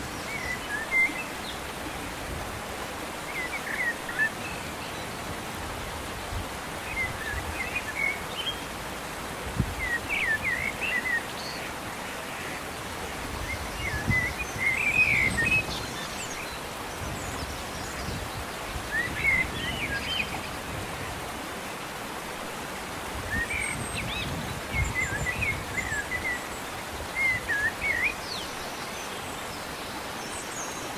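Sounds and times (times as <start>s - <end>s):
steady outdoor hiss: 0.0s - 30.9s.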